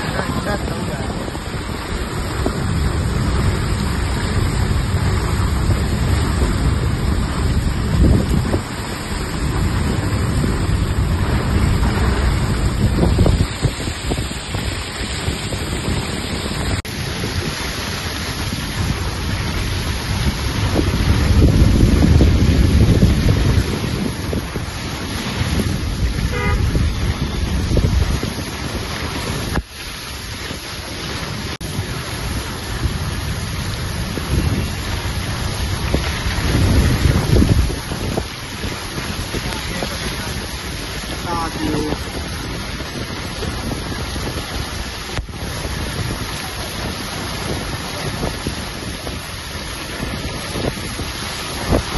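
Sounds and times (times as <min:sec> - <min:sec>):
car driving on wet road: 0:00.0 - 0:51.9
heavy rain rushing: 0:00.0 - 0:51.9
wind buffeting microphone: 0:00.0 - 0:51.9.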